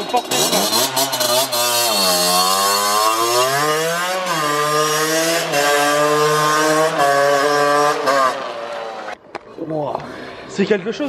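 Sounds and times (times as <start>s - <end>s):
two-stroke engine revving high: 0.0s - 9.1s.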